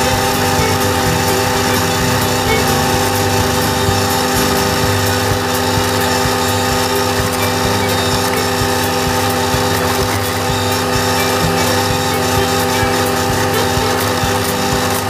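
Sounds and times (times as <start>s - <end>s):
flail mower cutting grass: 0.0s - 15.0s
tractor diesel engine under load: 0.0s - 15.0s.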